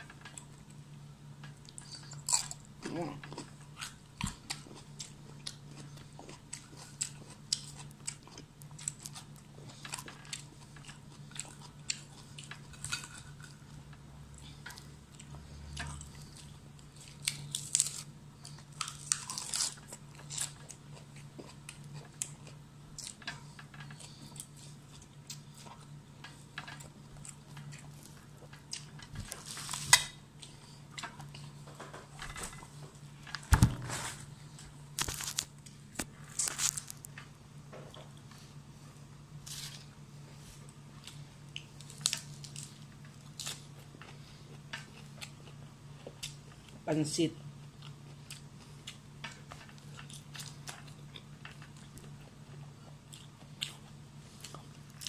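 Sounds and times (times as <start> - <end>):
steady low hum: 0.0 - 55.0
person chewing crunchy food: 1.5 - 31.8, 34.3 - 37.2, 39.4 - 46.8, 47.5 - 55.0.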